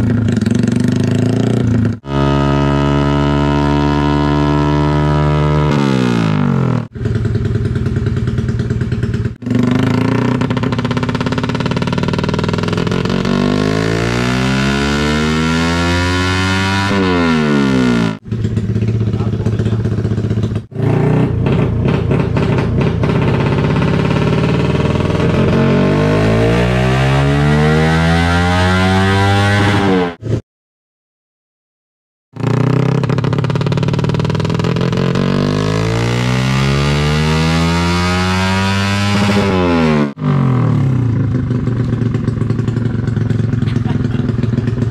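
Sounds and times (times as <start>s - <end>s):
motorcycle engine at full throttle: 0.0s - 30.4s, 32.4s - 44.9s.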